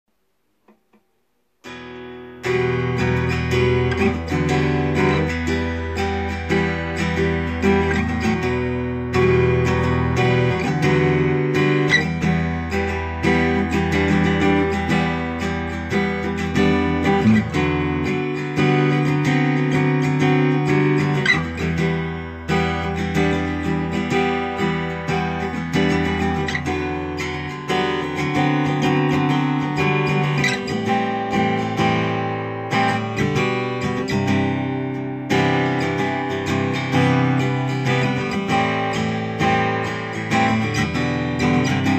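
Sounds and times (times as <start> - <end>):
acoustic guitar playing: 0.1 - 41.9.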